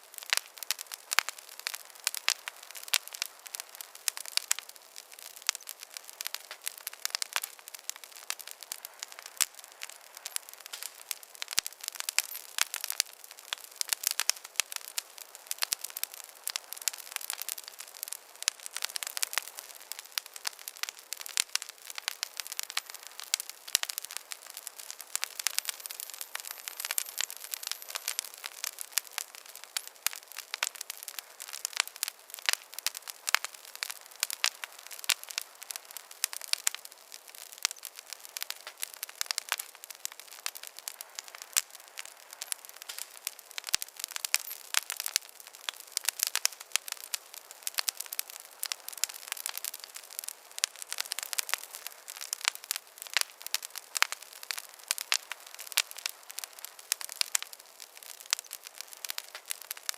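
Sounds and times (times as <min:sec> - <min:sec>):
campfire crackling and popping: 0:00.0 - 0:59.9
soft hiss of fire: 0:00.0 - 0:59.9.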